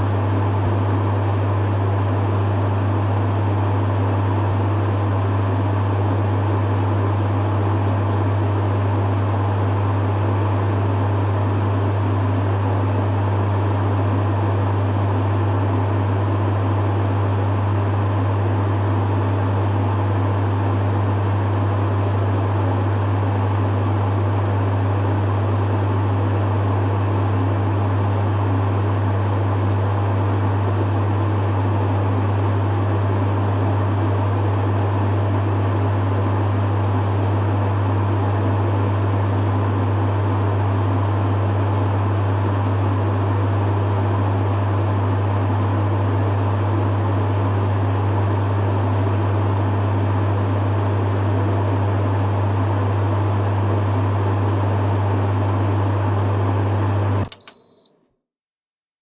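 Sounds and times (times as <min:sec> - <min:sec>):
dehumidifier low hum: 0:00.0 - 0:58.0.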